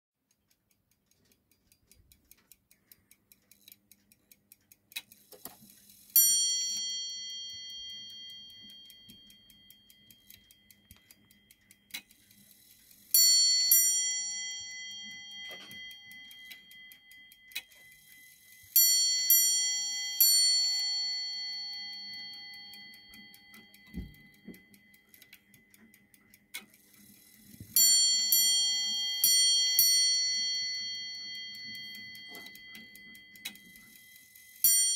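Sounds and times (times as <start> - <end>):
clock ticking quickly: 0.2 - 20.8, 21.5 - 34.9.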